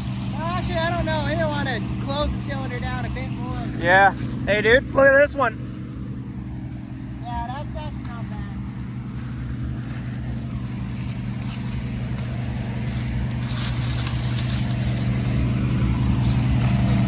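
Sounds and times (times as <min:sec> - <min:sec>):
combine harvester engine running: 0:00.0 - 0:17.0
crackling stalks: 0:00.0 - 0:17.0.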